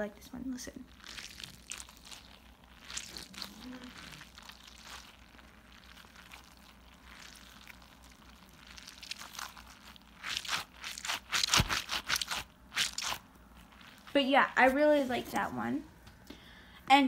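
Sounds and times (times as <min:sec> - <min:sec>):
stress ball crackling squishes: 0:00.4 - 0:15.4.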